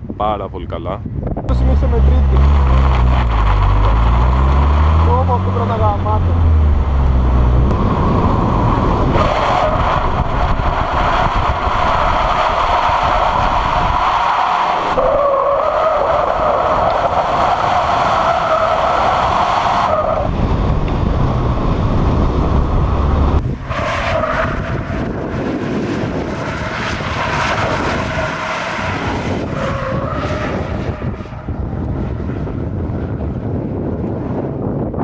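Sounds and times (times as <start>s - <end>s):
crackling wind noise: 0.0s - 35.0s
car engine running hard: 1.5s - 35.0s.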